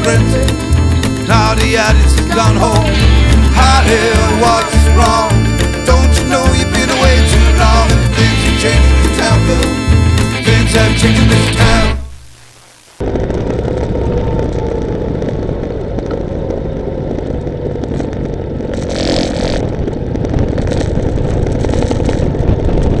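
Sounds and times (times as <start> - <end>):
vehicle engine road and wind noise: 0.0 - 11.5, 13.0 - 23.0.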